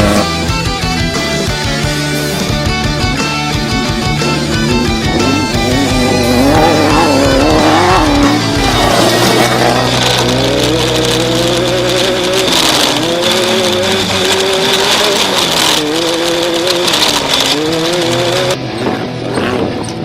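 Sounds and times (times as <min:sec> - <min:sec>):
steady high whine: 0:00.0 - 0:19.4
engine revving: 0:00.0 - 0:20.0.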